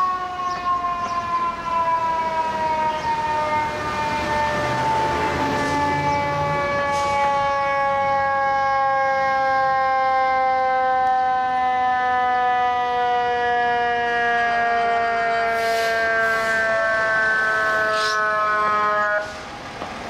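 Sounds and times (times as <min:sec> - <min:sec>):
mechanical siren winding down: 0:00.0 - 0:19.3.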